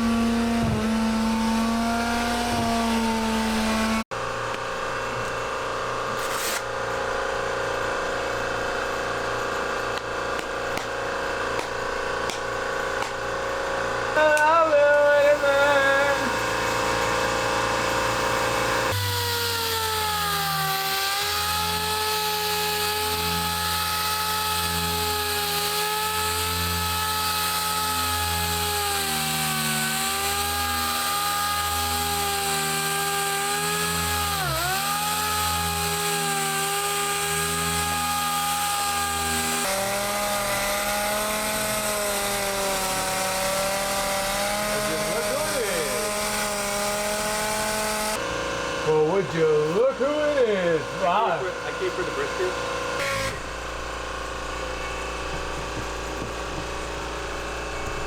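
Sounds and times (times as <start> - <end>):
electric sander motor whine: 0.0 - 58.0.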